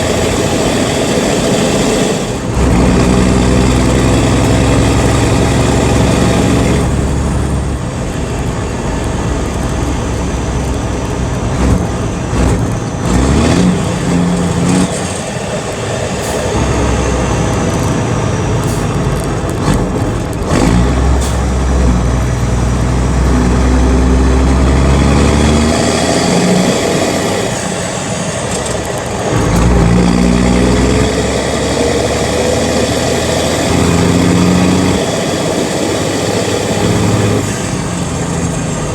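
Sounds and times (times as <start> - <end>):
diesel truck engine shifting gears: 0.0 - 38.9.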